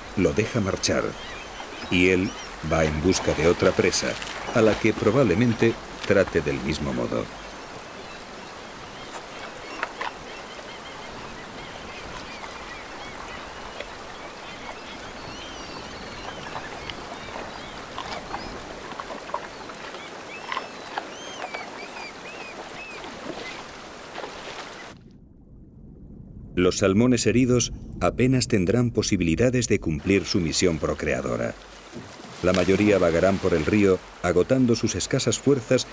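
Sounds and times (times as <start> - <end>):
birds chirping: 0.0 - 24.9, 29.2 - 35.9
river water rushing: 0.0 - 24.9, 30.5 - 35.9
sharp water splashes: 1.2 - 25.0, 30.0 - 35.9.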